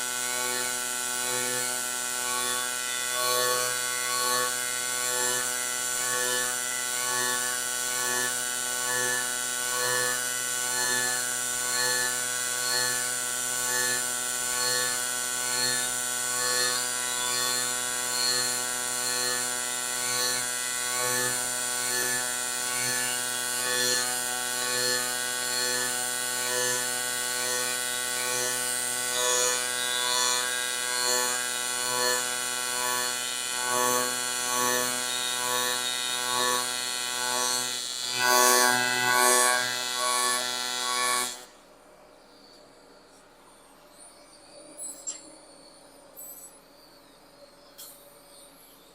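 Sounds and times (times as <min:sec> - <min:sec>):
welding arc buzzing: 0:00.0 - 0:41.6.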